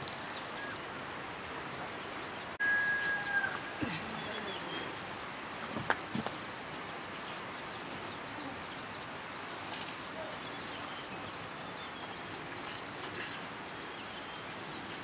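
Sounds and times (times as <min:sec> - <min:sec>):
outdoor hiss: 0:00.0 - 0:15.0
small birds chirping: 0:00.0 - 0:15.0.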